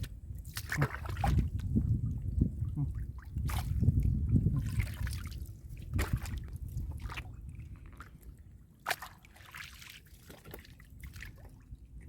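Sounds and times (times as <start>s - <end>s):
shallow water sloshing and dripping: 0.0s - 12.0s
water splashes: 0.0s - 12.0s.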